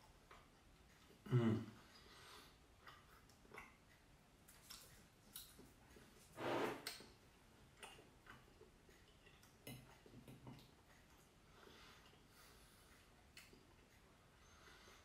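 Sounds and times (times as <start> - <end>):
chewing: 0.0 - 1.2, 1.8 - 15.0.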